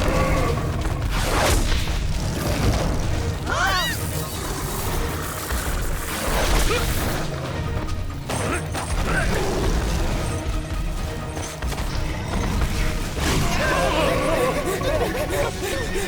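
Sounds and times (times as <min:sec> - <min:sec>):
action soundtrack music: 0:00.0 - 0:16.0.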